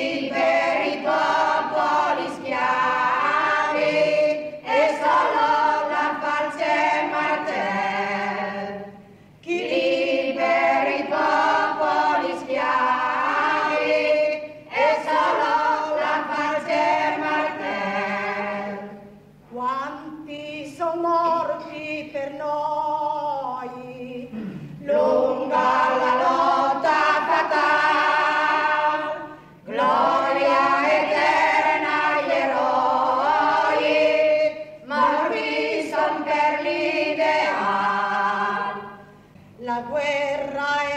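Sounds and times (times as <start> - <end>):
group singing unaccompanied: 0.0 - 19.4, 20.6 - 40.9.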